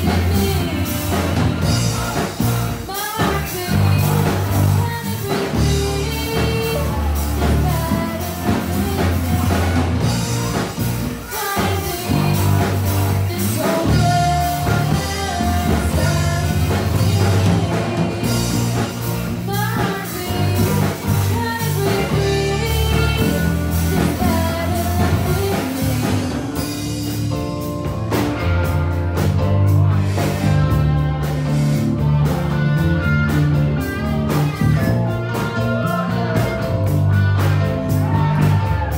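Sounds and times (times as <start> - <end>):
female lead vocal: 0.0 - 27.1, 33.0 - 38.9
live rock band playing: 0.0 - 38.9.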